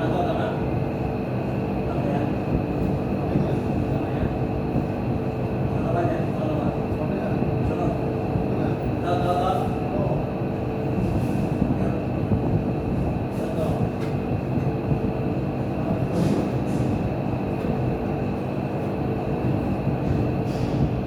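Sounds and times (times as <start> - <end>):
mechanical rumble with hum: 0.0 - 21.0.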